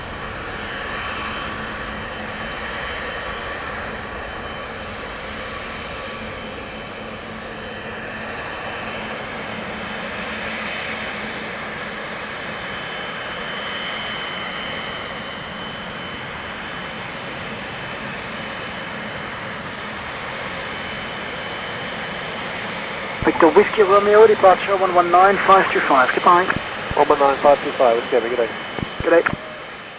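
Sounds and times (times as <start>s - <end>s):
jet engines at takeoff power: 0.0s - 29.9s.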